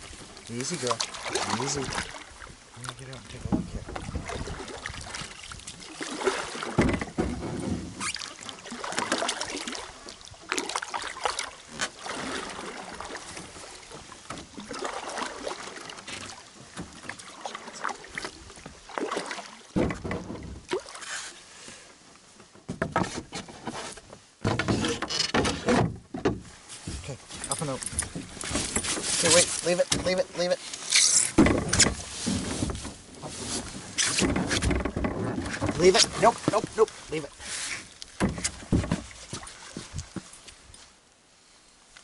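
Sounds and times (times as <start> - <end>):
paddle splashing in water: 0.0 - 40.7.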